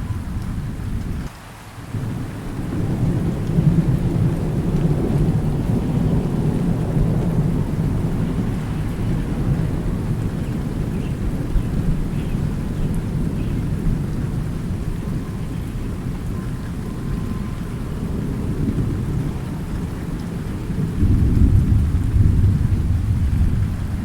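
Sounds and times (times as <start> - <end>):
thunder rumbling: 0.0 - 1.3, 1.9 - 24.0
steady rain: 0.0 - 24.0.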